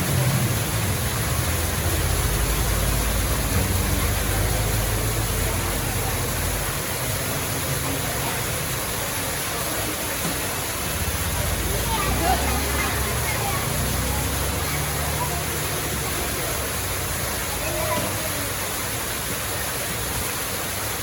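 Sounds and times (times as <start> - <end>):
steady rushing noise: 0.0 - 17.2.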